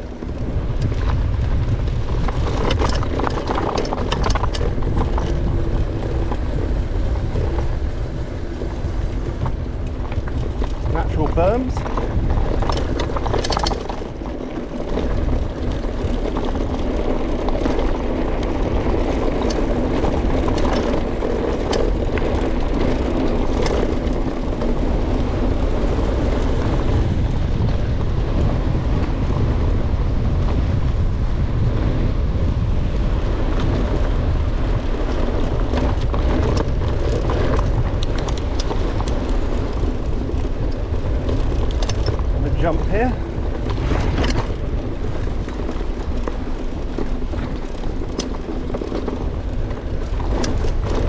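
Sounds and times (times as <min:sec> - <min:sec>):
bike clicks and rattles: 0:00.0 - 0:51.0
bike tyres on trail: 0:00.0 - 0:51.0
wind rumble on microphone: 0:00.0 - 0:51.0.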